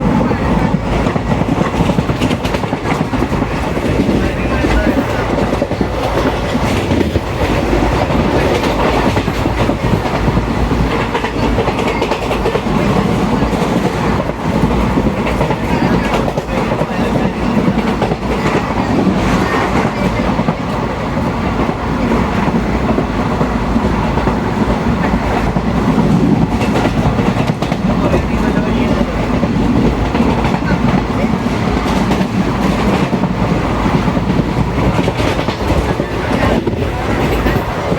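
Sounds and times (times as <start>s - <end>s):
train rolling rumble: 0.0s - 37.9s.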